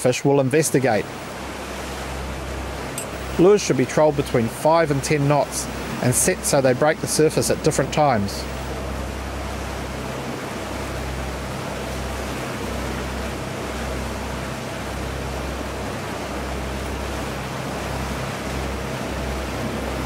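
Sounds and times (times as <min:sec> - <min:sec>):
boat engine drone: 0:00.0 - 0:20.0
churning wake rushing: 0:00.0 - 0:20.0
wind: 0:00.0 - 0:20.0.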